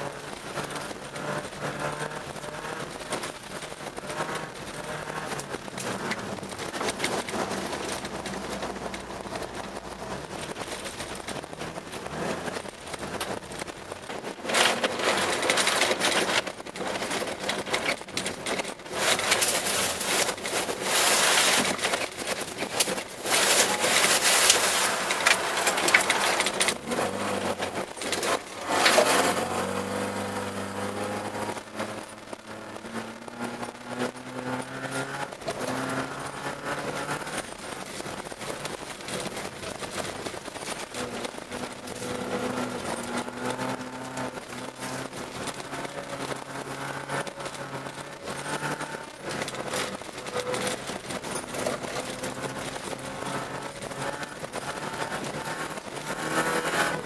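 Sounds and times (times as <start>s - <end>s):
car engine accelerating: 0.0s - 57.0s
snow and ice hitting car body: 0.0s - 57.0s.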